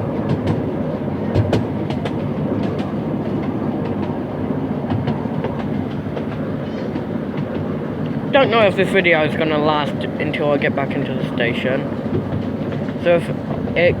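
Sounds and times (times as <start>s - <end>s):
train wheels rumbling on rails: 0.0s - 14.0s
wheels clicking over rail joints: 0.0s - 14.0s.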